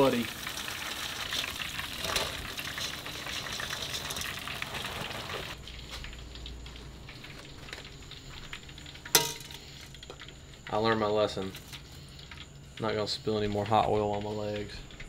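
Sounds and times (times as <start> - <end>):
oil sizzling in deep fryer: 0.0 - 15.0.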